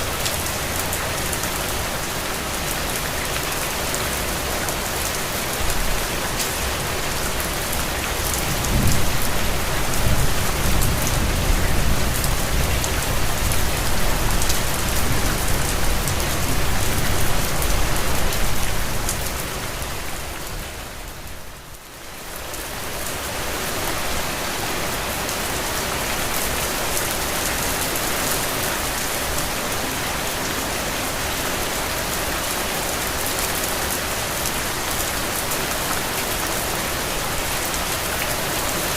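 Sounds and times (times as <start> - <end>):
rain on ground and foliage: 0.0 - 38.9.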